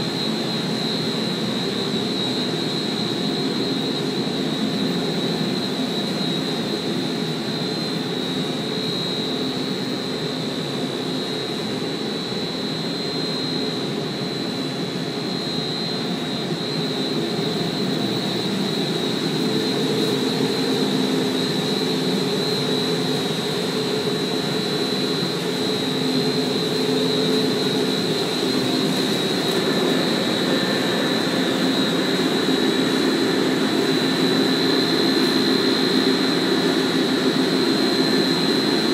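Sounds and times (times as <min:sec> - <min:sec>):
constant high whine: 0:00.0 - 0:38.9.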